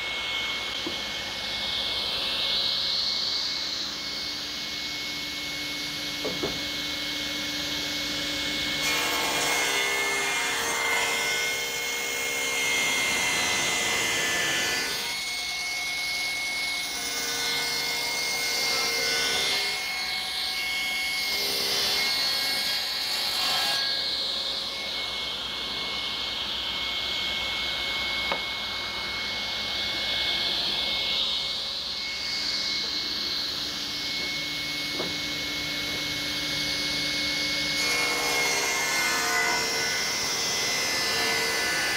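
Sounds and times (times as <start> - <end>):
table saw whining: 0.0 - 41.9.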